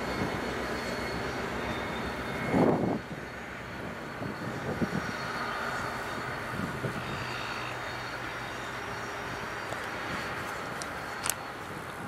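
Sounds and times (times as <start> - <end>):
locomotive engine running: 0.0 - 12.0
rush of noise: 0.0 - 12.0.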